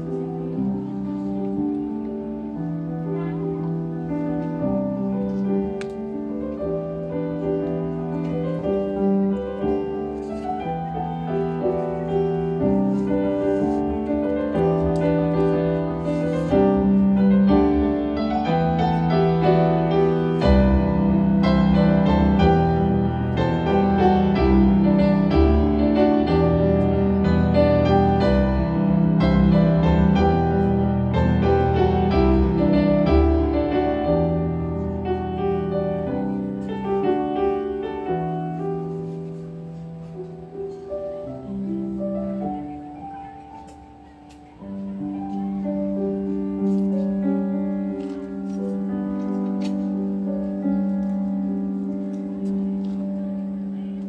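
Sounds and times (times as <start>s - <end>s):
solo grand piano: 0.0s - 54.0s.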